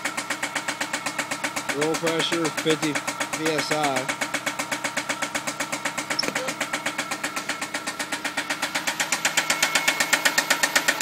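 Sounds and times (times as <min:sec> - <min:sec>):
car engine idling with knock: 0:00.0 - 0:11.0.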